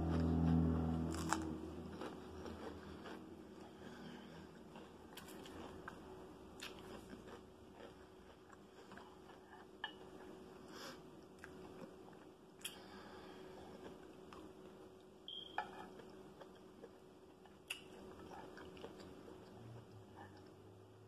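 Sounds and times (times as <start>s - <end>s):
close-up chewing of fried fish: 0.0s - 20.6s
faint steady hum: 0.0s - 21.0s.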